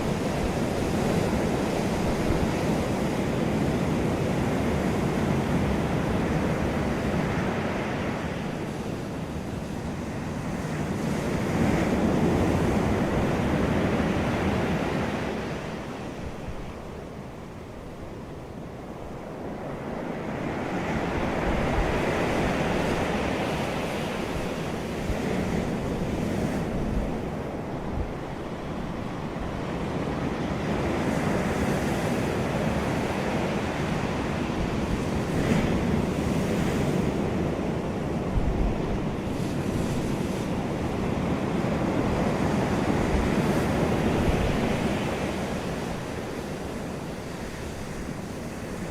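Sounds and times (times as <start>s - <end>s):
wind rushing across microphone: 0.0s - 48.9s.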